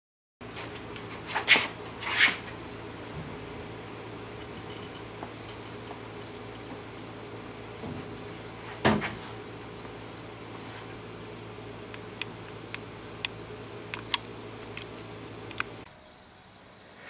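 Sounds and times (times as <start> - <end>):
low hum: 0.4 - 16.9
insects chirping: 0.4 - 17.0.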